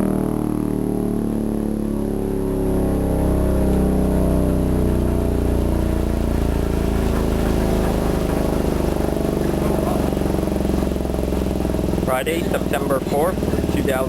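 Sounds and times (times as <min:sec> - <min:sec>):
air raid siren tone: 0:00.0 - 0:14.0
engine rumbling: 0:00.0 - 0:14.0.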